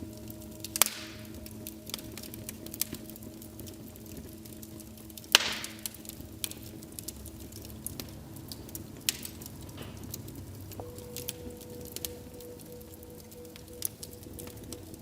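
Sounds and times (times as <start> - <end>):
wood fire crackling: 0.0 - 15.0
fire pops: 0.1 - 15.0.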